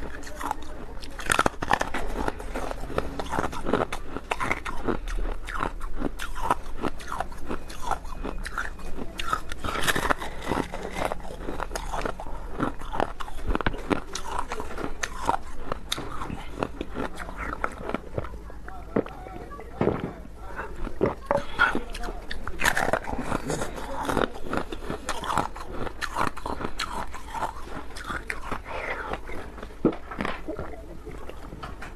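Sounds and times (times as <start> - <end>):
chewing crunchy ice: 0.0 - 31.9.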